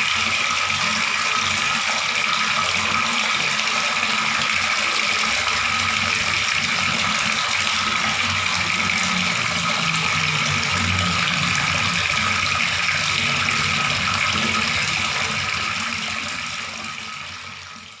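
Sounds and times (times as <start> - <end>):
water running from tap: 0.0 - 18.0.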